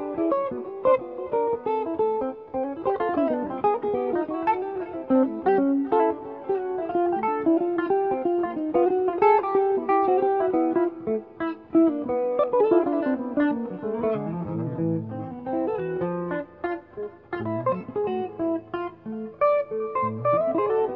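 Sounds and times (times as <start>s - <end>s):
jazz guitar duet: 0.0s - 20.9s.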